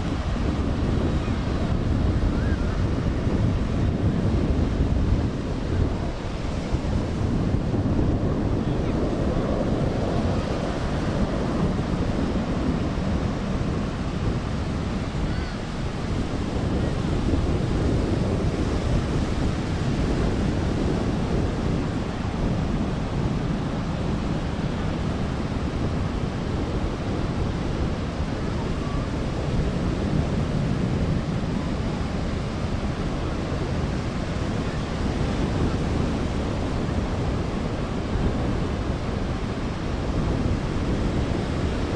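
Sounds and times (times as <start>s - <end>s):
surf washing: 0.0s - 41.9s
wind buffeting microphone: 0.0s - 41.9s.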